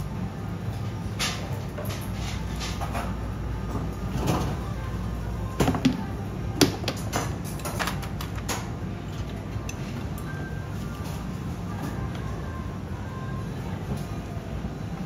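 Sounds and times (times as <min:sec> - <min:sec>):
background music: 0:00.0 - 0:15.0
steady low hum: 0:00.0 - 0:15.0.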